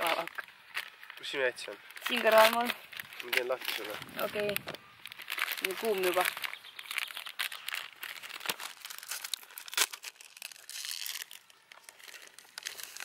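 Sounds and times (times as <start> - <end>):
wrapper crinkling and tearing: 0.0 - 13.0.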